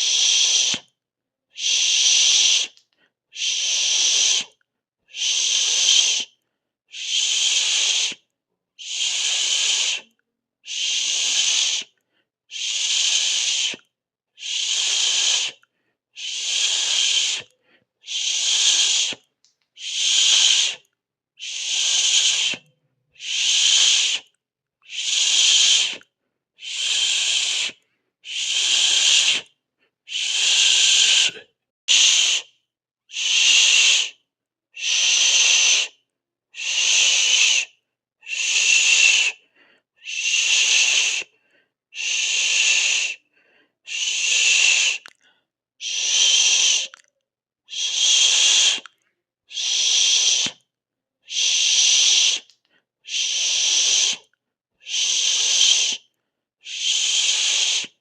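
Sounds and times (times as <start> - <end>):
person hissing through teeth: 0.0 - 0.9, 1.5 - 8.2, 8.8 - 32.5, 33.1 - 34.2, 34.8 - 36.0, 36.6 - 39.4, 40.0 - 43.2, 43.9 - 45.2, 45.8 - 47.0, 47.7 - 50.6, 51.2 - 58.0.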